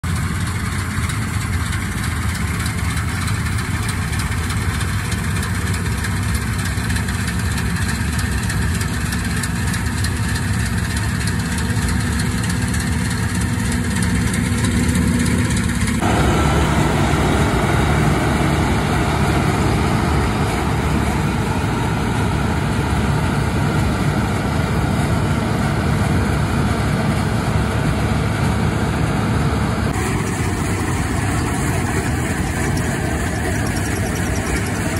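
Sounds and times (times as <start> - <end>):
combine harvester humming: 0.0 - 34.9.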